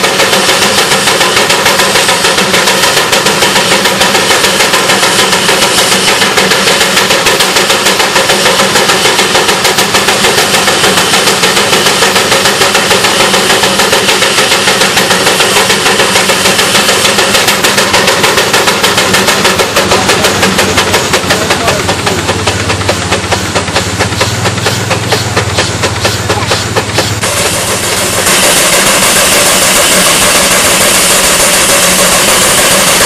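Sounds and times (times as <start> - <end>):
steam engine exhaust chuffing: 0.0 - 33.0
steam hissing: 0.0 - 33.0.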